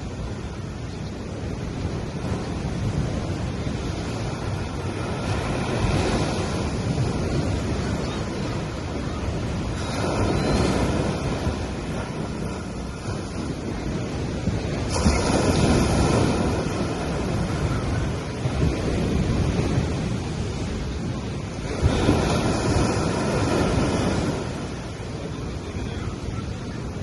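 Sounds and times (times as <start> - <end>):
sea waves washing onto beach: 0.0 - 27.0
wind on microphone: 0.0 - 27.0.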